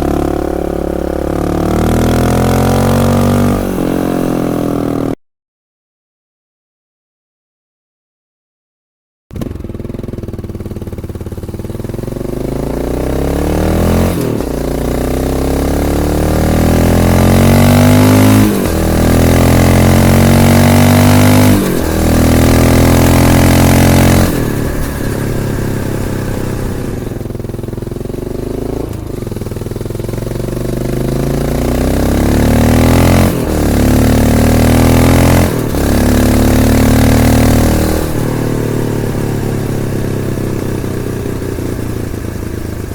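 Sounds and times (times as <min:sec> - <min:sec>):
motorcycle engine accelerating: 0:00.0 - 0:05.2, 0:09.3 - 0:42.9.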